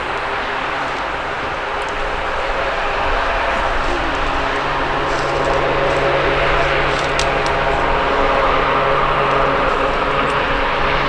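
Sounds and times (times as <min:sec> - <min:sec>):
aircraft engines droning: 0:00.0 - 0:11.0.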